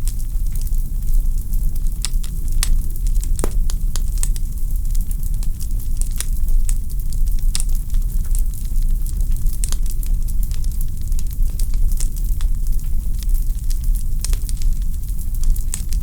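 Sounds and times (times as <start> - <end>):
wood fire crackling and popping: 0.1 - 16.0.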